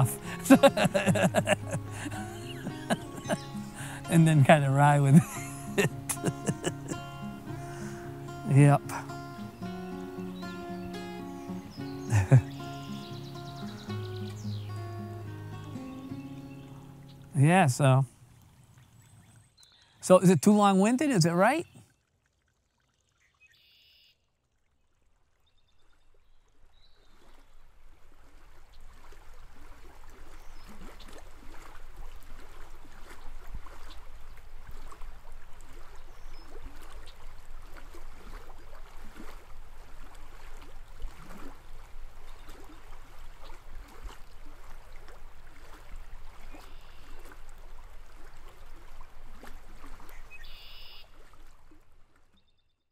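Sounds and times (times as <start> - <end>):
stream water rushing: 0.0 - 19.2, 20.0 - 21.8, 27.1 - 52.0.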